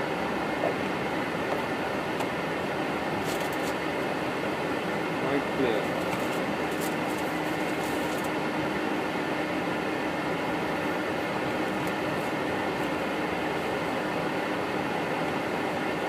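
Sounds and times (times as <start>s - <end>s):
air-conditioning and fan noise: 0.0s - 16.0s.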